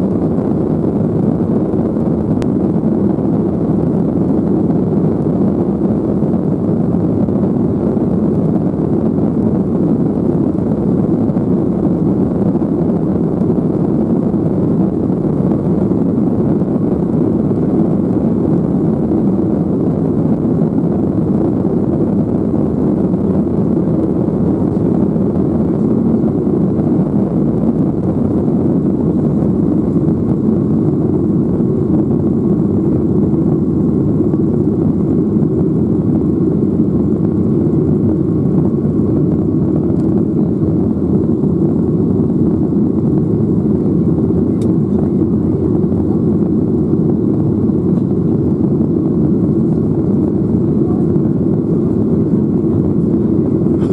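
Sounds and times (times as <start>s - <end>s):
jet engine drone in cabin: 0.0s - 53.9s.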